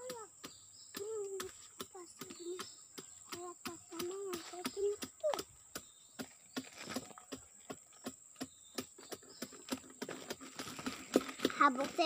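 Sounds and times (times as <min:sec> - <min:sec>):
faint regular tapping: 0:00.0 - 0:12.0.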